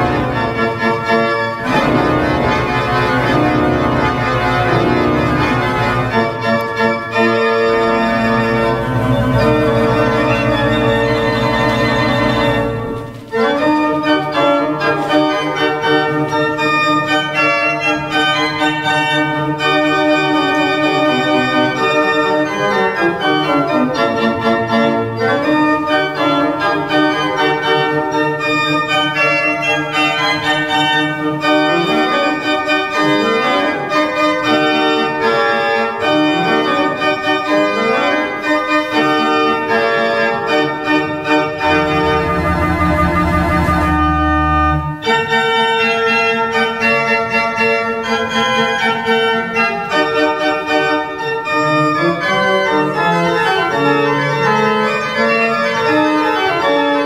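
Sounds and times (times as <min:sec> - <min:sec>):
pipe organ playing fast piece: 0:00.0 - 0:57.0.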